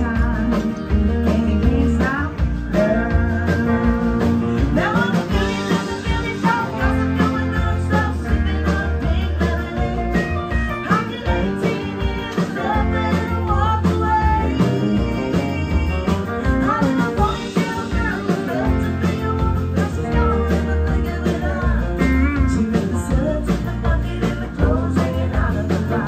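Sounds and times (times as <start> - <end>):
electric guitars: 0.0 - 26.0
live country band playing: 0.0 - 26.0
steady drum beat: 0.0 - 26.0
woman singing: 0.0 - 26.0.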